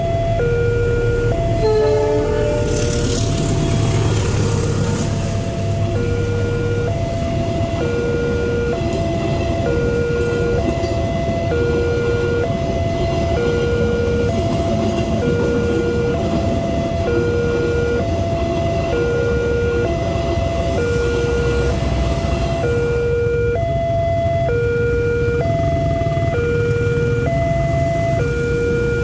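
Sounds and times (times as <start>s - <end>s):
train coaches rumbling past: 0.0s - 24.5s, 25.2s - 28.9s.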